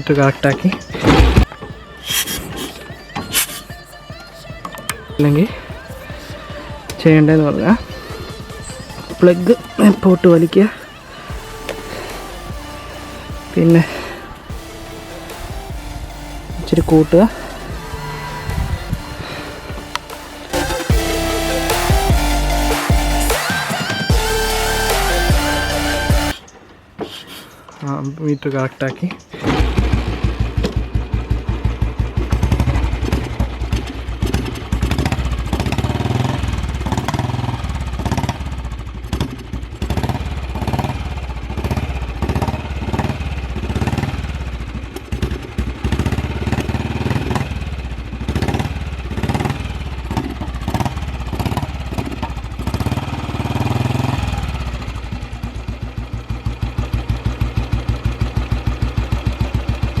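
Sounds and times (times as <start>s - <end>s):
motorcycle engine running unevenly: 2.5s - 26.4s, 29.4s - 60.0s.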